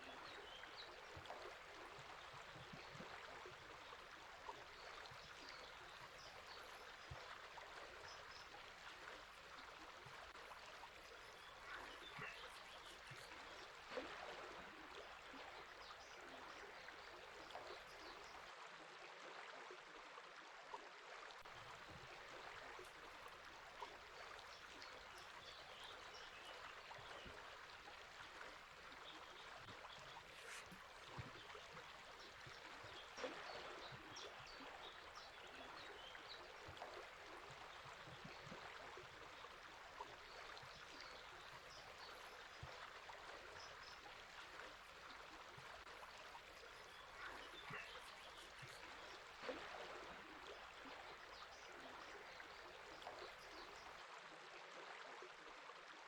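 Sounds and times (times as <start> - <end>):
river flowing: 0.0 - 18.5, 21.4 - 54.0.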